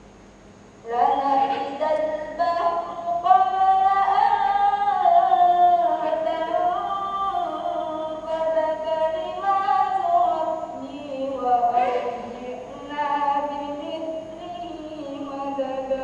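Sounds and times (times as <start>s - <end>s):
woman singing unaccompanied: 0.8s - 16.0s.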